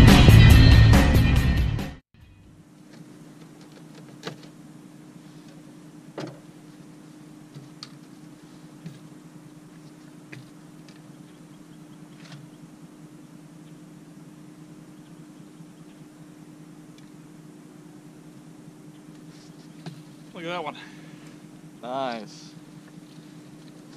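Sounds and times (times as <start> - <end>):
steady low hum: 2.2 - 23.9.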